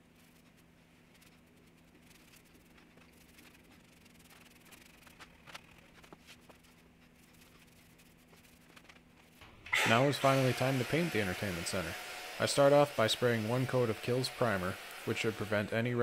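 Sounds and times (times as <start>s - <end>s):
paintbrush rubbing on wood: 0.0s - 9.4s, 10.0s - 15.5s
low steady hum: 0.0s - 16.0s.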